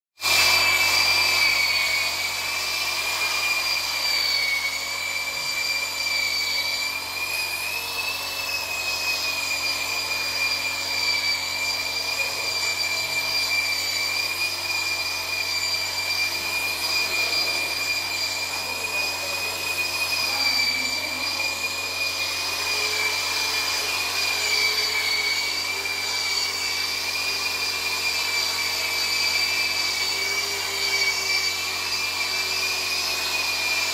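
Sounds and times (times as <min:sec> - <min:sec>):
electric polishers whining: 0:00.2 - 0:33.9.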